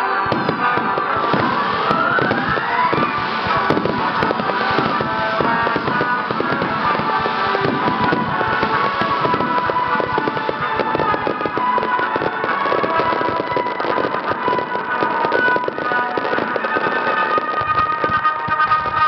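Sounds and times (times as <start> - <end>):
fireworks bursts and crackling: 0.0 - 19.0
rising firework whistle: 0.0 - 19.0.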